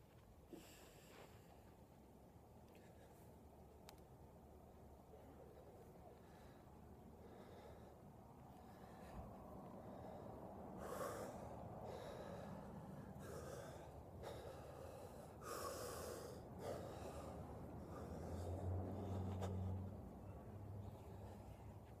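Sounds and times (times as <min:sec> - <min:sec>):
man breathing sharply: 0:00.5 - 0:01.7, 0:05.4 - 0:22.0.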